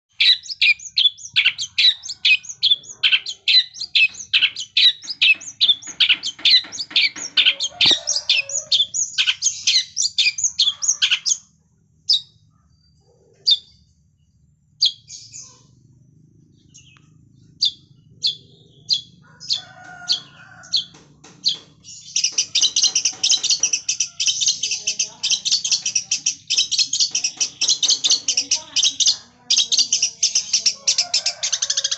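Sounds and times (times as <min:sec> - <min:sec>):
bird singing high chirps: 0:00.1 - 0:11.4, 0:16.5 - 0:31.9.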